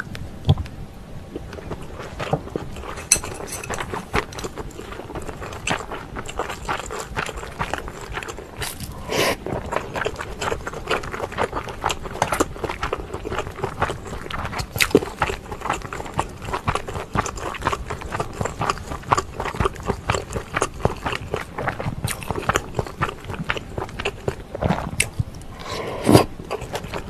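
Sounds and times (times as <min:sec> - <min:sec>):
wet mouth chewing sounds: 0:01.3 - 0:27.0.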